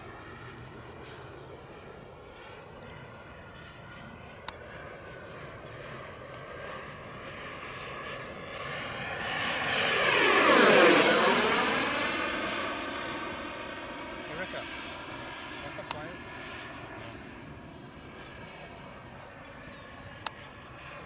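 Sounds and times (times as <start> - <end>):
model jet fan whine passing: 0.0 - 21.0.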